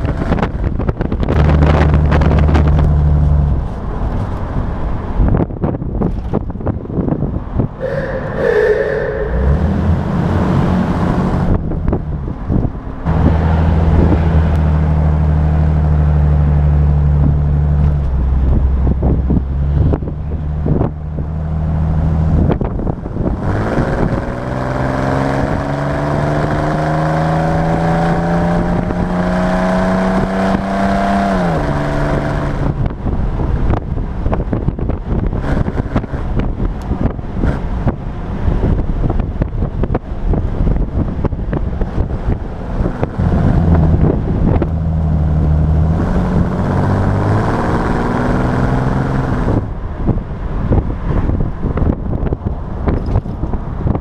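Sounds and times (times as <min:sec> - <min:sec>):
car engine accelerating: 0:00.0 - 0:53.9
wind and road noise: 0:00.0 - 0:54.0.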